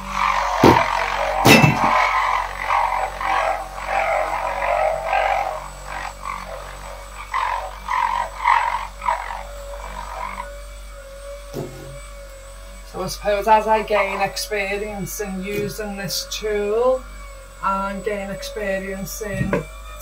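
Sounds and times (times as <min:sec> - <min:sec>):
electric buffer motor: 0:00.0 - 0:20.0.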